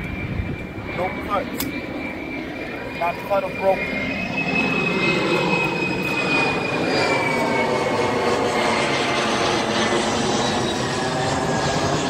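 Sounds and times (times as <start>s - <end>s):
engine drone with high whine: 0.0s - 12.0s.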